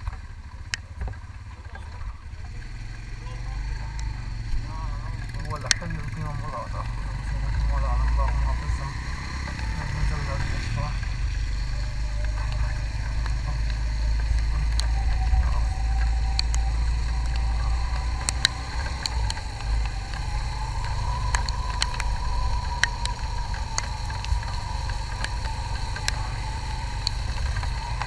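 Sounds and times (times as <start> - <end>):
motorcycle engine running: 0.0 - 28.0
sharp ticks: 2.4 - 28.0
wind rumble on microphone: 3.2 - 28.0.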